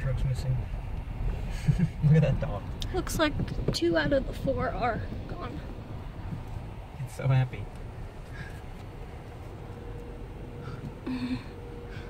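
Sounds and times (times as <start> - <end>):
faint steady hum: 0.0 - 12.0
low rumble inside car cabin: 0.0 - 12.0.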